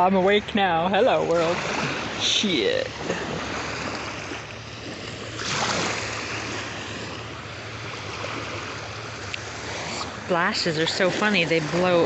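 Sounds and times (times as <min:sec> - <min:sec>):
ocean wave splashing: 0:00.0 - 0:12.0
surf washing: 0:00.0 - 0:12.0.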